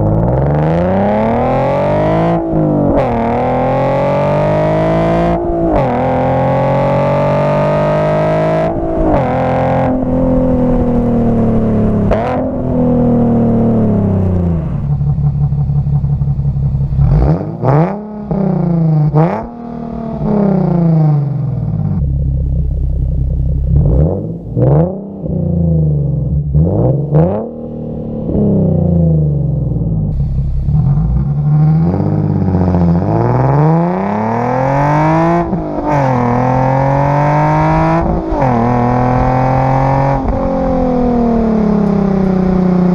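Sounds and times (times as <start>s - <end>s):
sports car engine revving: 0.0s - 42.9s.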